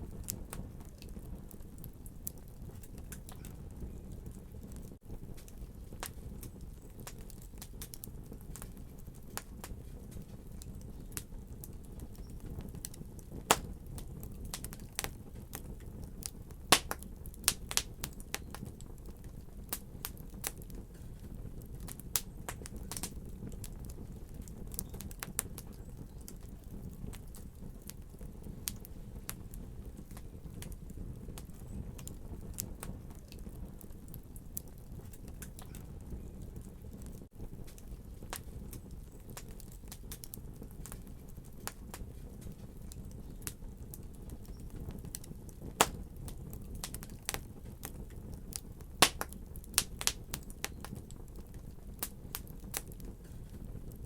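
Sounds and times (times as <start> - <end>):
low rumble of burning fire: 0.0 - 54.0
wood fire crackling and popping: 0.0 - 54.0.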